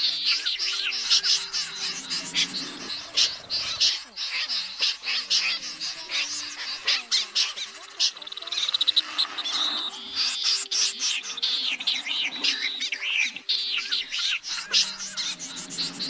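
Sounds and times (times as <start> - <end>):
snipe flock calling harshly: 0.0 - 16.0.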